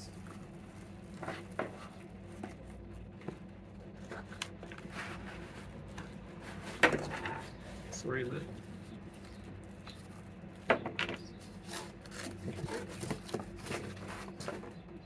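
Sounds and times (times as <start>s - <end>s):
cardboard scraping and rustling: 0.1s - 14.8s.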